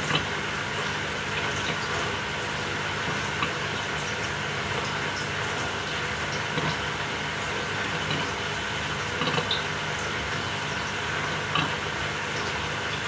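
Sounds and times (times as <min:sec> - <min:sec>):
washing machine whirring rumble: 0:00.0 - 0:13.0.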